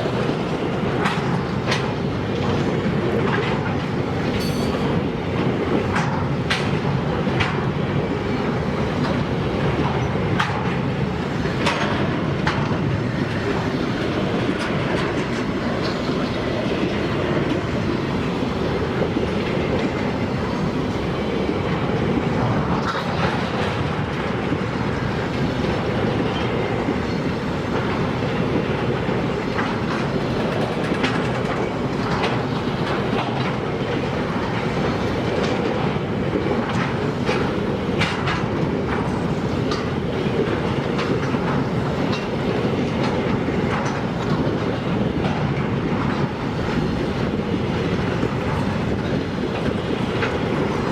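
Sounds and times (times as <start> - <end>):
freight wagons rumbling on rails: 0.0 - 50.9
wheels clicking over rail joints: 0.0 - 50.9.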